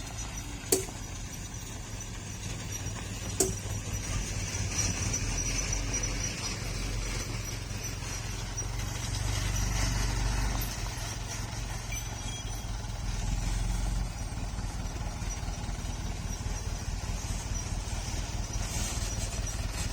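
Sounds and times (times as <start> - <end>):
vehicle engine humming: 0.0 - 19.9.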